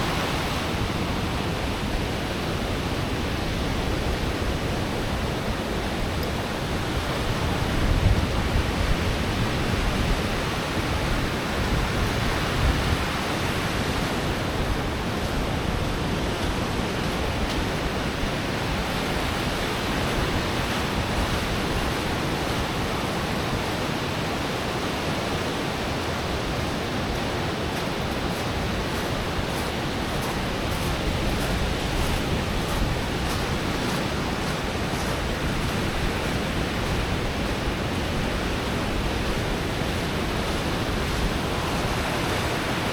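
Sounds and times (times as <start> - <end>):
ocean surf on sandy beach: 0.0 - 42.9.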